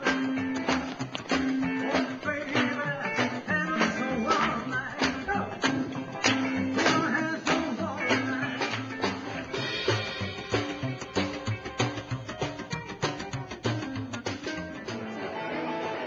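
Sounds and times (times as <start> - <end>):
upright double bass: 0.0 - 15.3
rock and roll music: 0.0 - 16.0.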